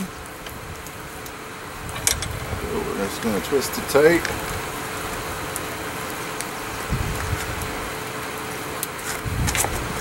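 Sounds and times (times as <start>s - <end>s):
flux crackling and popping: 0.0s - 10.0s
mechanical hum: 0.0s - 10.0s.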